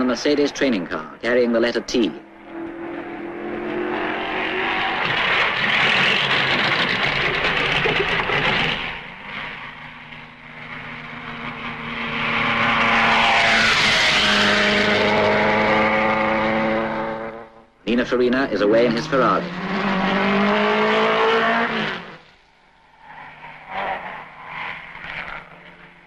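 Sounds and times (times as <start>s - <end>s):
racing car engines running hard: 0.0s - 26.0s
racing car passing: 0.0s - 26.0s.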